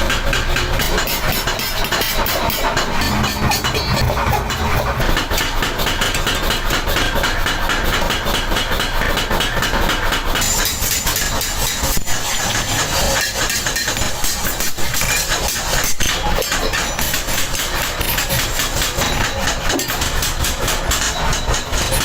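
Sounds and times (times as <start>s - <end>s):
metalworking machine knocking: 0.0s - 22.0s.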